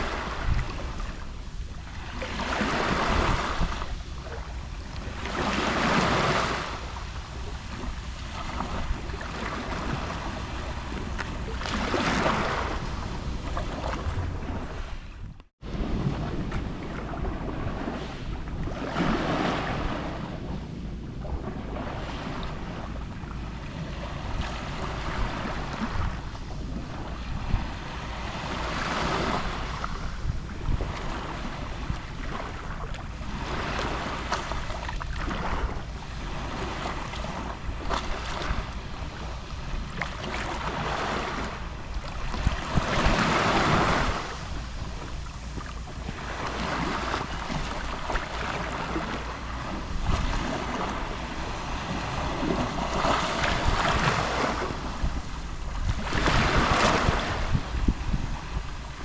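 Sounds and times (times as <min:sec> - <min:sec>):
low wind rumble on microphone: 0:00.0 - 0:59.0
small sea waves lapping: 0:00.0 - 0:59.0.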